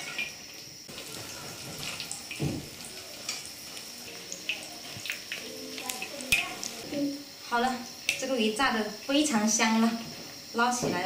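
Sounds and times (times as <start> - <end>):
fish sizzling in hot oil: 0.0 - 10.6.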